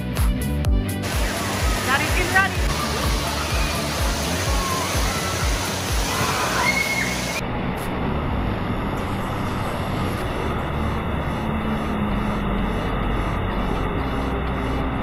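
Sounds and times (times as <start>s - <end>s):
indoor waterpark wash: 1.0s - 15.0s.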